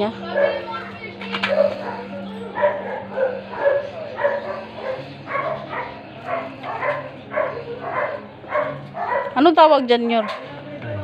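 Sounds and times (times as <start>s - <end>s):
dog barking: 0.2s - 0.8s, 1.4s - 10.5s.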